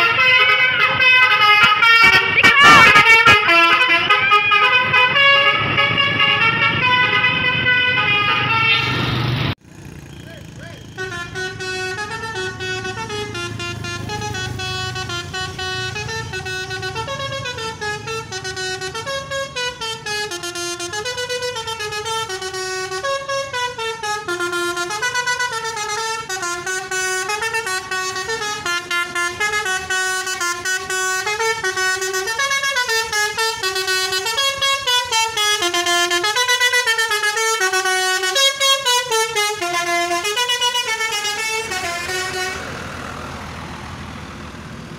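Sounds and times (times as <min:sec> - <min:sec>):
multi-tone horn playing a tune: 0:00.0 - 0:09.5, 0:10.9 - 0:42.8.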